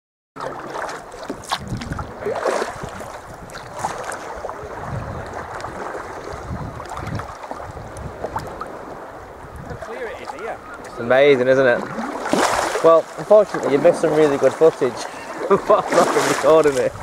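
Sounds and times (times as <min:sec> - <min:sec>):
water splashing around paddle: 0:00.4 - 0:17.0
wind buffeting microphone: 0:01.0 - 0:17.0.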